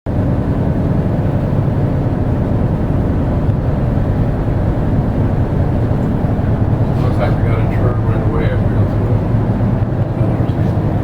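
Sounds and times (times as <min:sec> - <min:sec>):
boat engine droning: 0:00.1 - 0:11.0.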